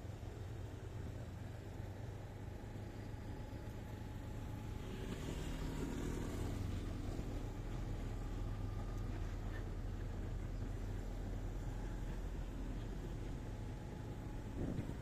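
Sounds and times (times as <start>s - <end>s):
motorbike engine and road noise: 0.0s - 15.0s.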